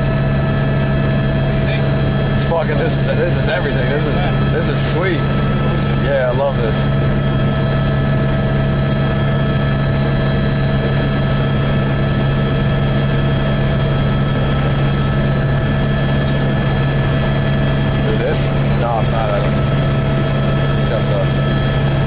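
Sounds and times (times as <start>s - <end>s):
helicopter rotor and turbine drone: 0.0s - 22.0s
whining tones: 0.0s - 22.0s.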